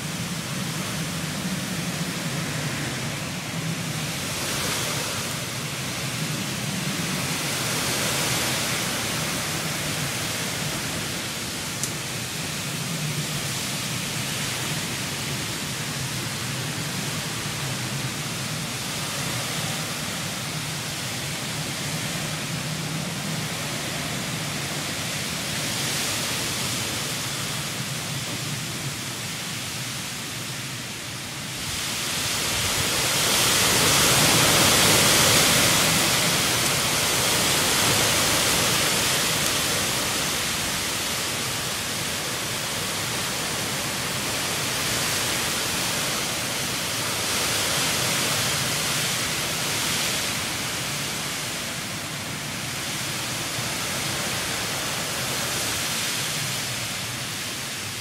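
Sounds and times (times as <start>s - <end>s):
heavy rain and wind: 0.0s - 58.0s.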